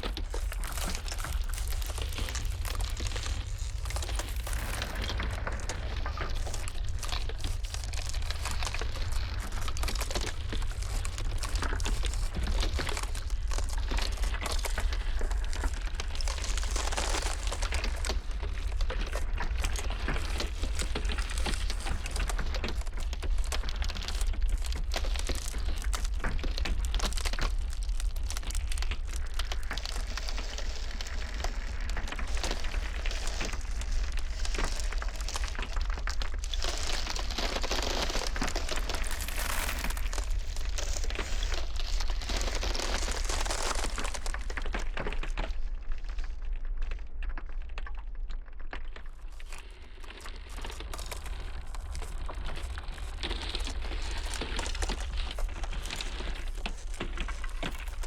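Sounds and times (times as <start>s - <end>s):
ice cracking: 0.0s - 58.0s
low rumble of blizzard wind: 0.0s - 58.0s.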